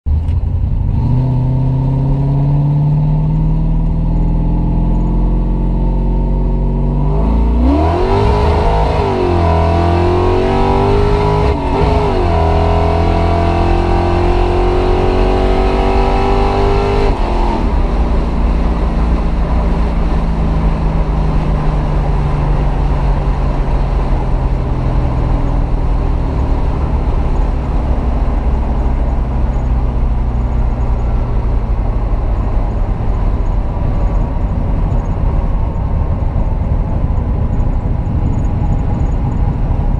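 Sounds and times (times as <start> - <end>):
car engine revving: 0.1 - 39.9.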